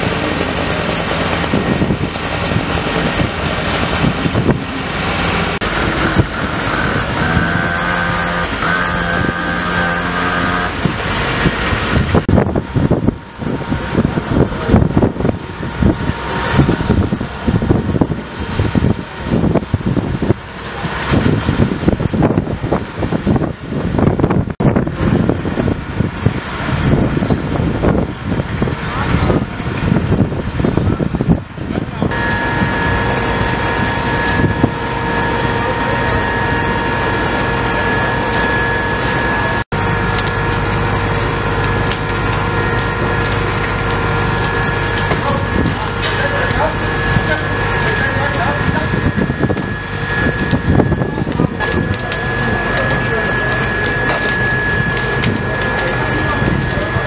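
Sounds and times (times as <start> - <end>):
faint high whine: 0.0 - 57.0
fire engine running: 0.0 - 57.0
wind rumble on microphone: 0.0 - 57.0.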